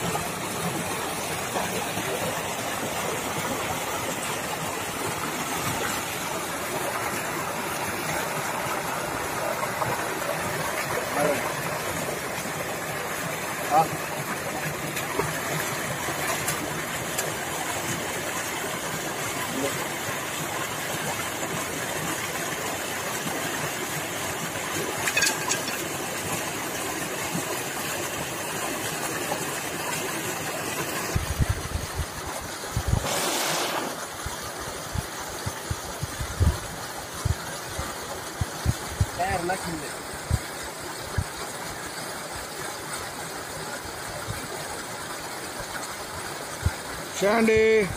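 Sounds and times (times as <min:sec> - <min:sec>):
water gushing from a pipe into a tank: 0:00.0 - 0:47.9.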